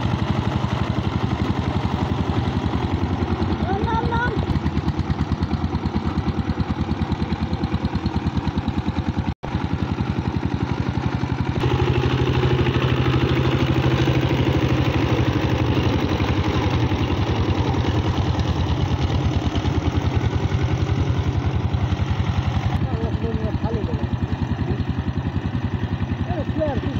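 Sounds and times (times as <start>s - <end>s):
diesel engine chugging: 0.0s - 26.9s
wheels churning through mud: 0.0s - 26.9s.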